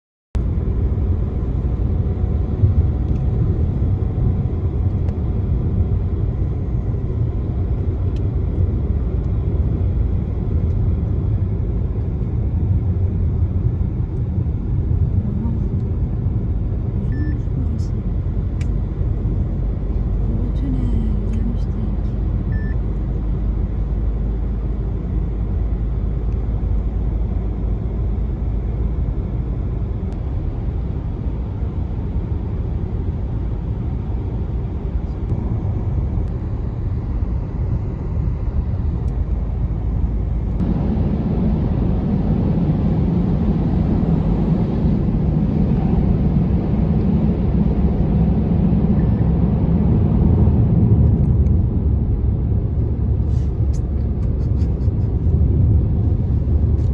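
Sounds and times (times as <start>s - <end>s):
car road and engine noise: 0.4s - 56.9s.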